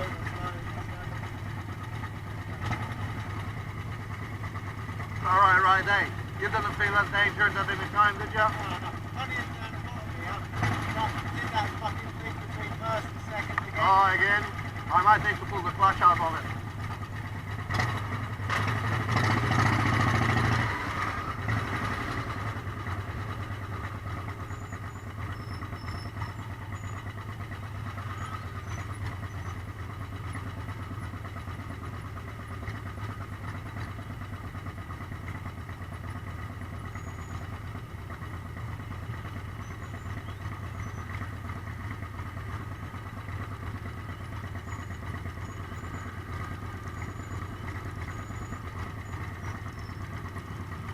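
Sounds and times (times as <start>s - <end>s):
motorcycle engine at low revs: 0.0s - 50.9s.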